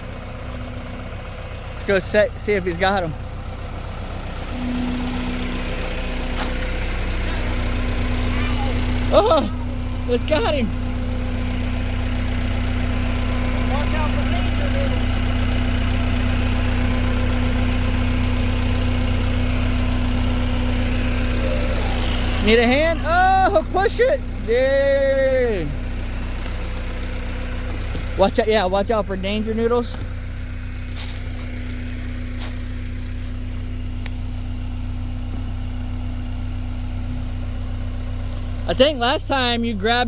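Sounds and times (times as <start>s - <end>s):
tractor engine idling: 0.0s - 40.0s.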